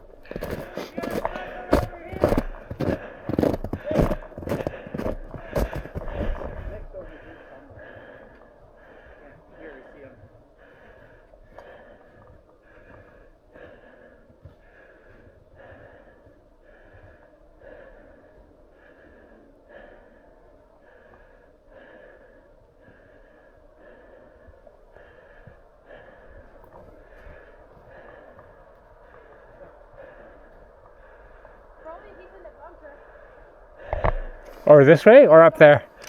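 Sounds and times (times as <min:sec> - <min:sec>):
person breathing heavily: 0:00.0 - 0:34.8.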